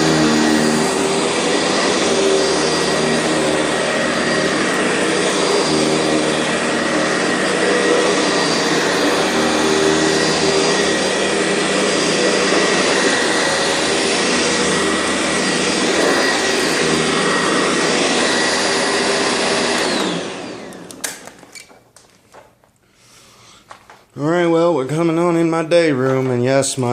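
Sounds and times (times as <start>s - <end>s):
vacuum motor winding down: 0.0s - 21.6s
vacuum cleaner running: 0.0s - 21.8s.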